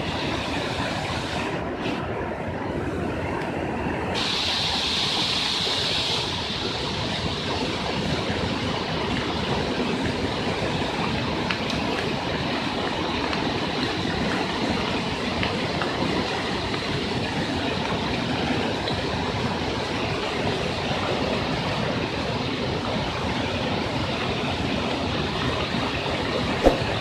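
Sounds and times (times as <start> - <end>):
floodwater rushing down street: 0.0 - 27.0.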